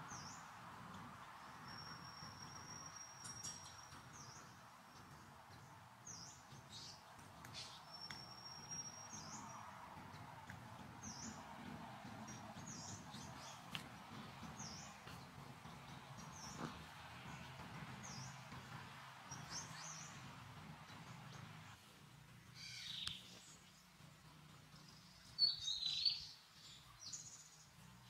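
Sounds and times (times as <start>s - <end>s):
songbird chirping: 0.0s - 21.8s, 22.5s - 28.0s
faint forest ambience: 0.0s - 28.0s.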